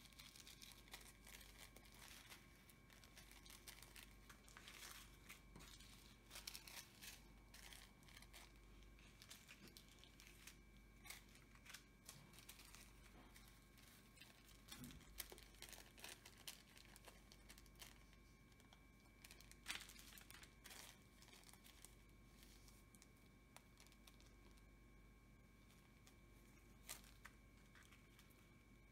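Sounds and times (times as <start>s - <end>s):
plastic bags crinkling: 0.0s - 24.7s, 25.7s - 28.6s.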